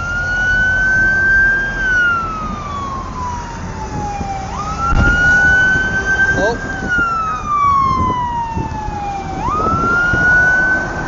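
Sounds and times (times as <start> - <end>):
emergency vehicle siren wailing: 0.0 - 11.0
low road noise rumble: 0.0 - 11.0.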